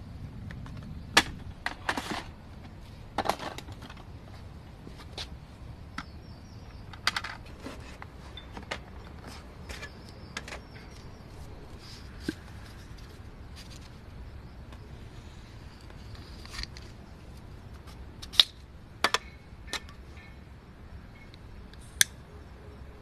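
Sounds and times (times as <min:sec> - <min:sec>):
faint steady background noise: 0:00.0 - 0:23.0.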